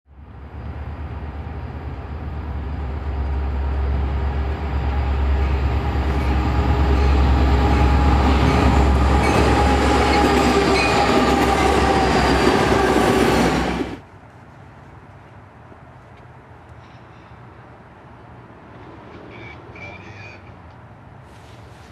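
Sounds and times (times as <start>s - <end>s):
diesel locomotive engine rumble: 0.1s - 21.9s.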